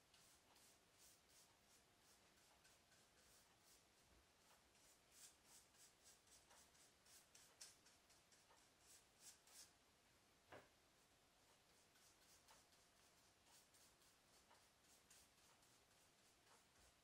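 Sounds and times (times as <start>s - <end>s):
paintbrush swishing on cardboard: 0.0s - 9.7s, 11.7s - 17.0s.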